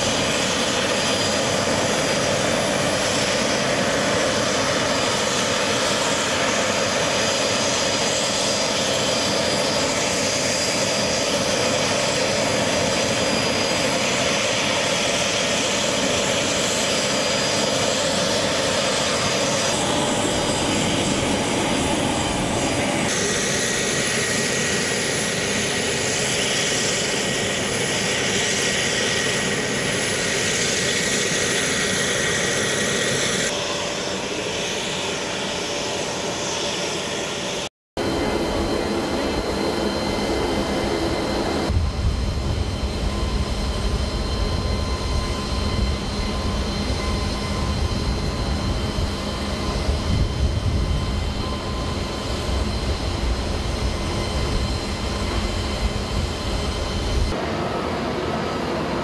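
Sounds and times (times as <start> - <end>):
high engine whine: 0.0 - 59.0
jet engines running: 0.0 - 59.0.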